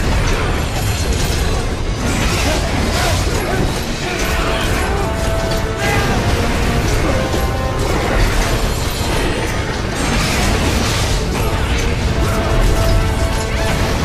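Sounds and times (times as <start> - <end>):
noisy action sound effects: 0.0 - 14.0
soundtrack music with held notes: 0.0 - 14.0.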